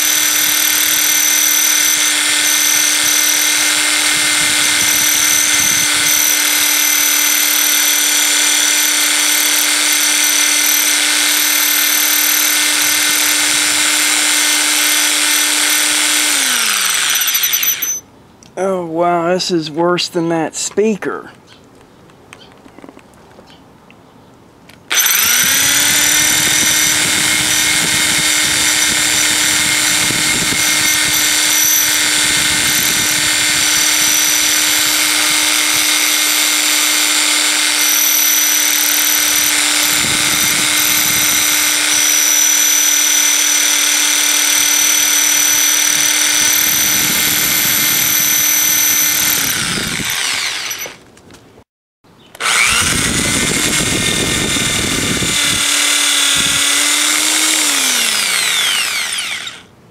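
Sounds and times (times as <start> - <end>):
electric drill grinding into board: 0.0 - 18.0, 24.9 - 51.0, 52.4 - 59.7.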